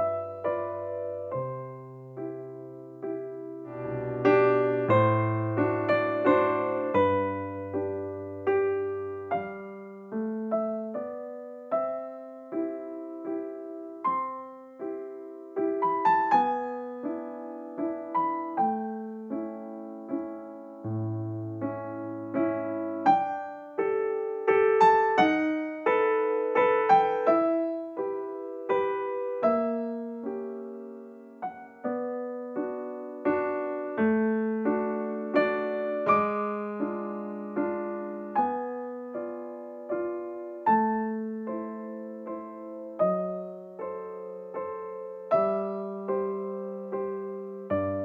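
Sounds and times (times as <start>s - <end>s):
gentle piano music: 0.0s - 48.0s.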